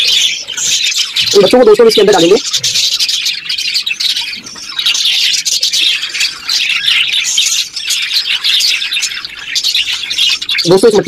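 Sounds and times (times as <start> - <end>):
budgerigars chirping and squawking: 0.0 - 11.0.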